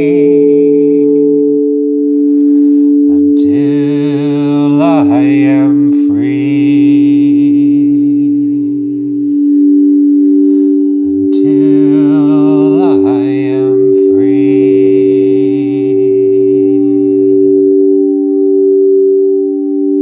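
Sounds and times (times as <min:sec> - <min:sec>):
low drone: 0:00.0 - 0:20.0
singing bowls ringing: 0:00.0 - 0:20.0.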